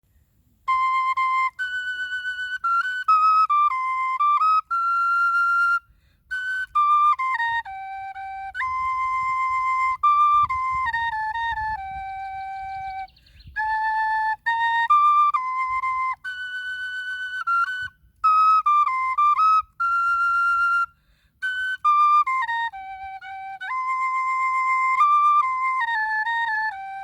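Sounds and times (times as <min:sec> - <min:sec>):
end-blown flute melody: 0:00.6 - 0:27.0.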